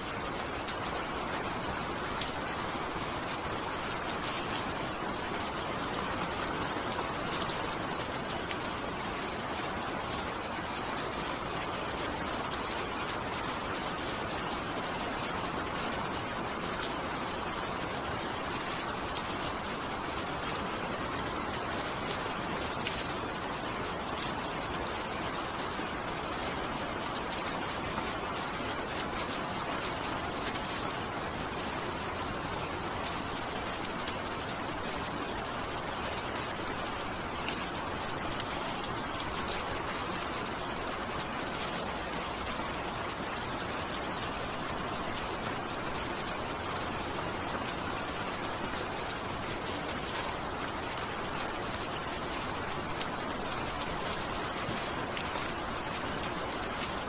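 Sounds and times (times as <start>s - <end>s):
steady rain hiss: 0.0s - 57.0s
raindrop ticks: 0.2s - 57.0s.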